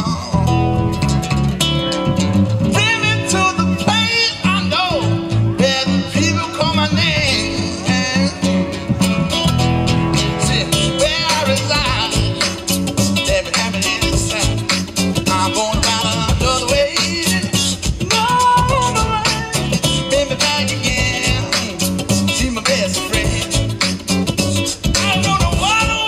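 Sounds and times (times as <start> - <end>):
person singing: 0.0 - 0.5, 2.7 - 8.9, 10.2 - 26.0
band music with guitar: 0.0 - 26.0.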